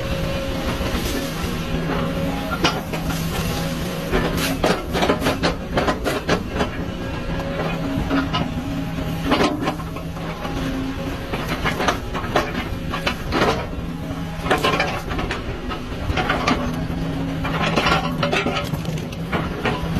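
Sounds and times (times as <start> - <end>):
machinery humming: 0.0 - 19.9.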